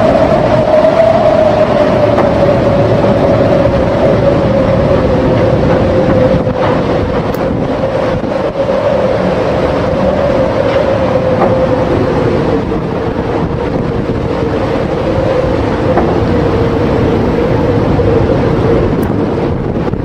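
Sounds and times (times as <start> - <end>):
heavy seas breaking: 0.0 - 20.0
mid-pitched drone: 0.0 - 20.0
storm wind on microphone: 0.0 - 20.0.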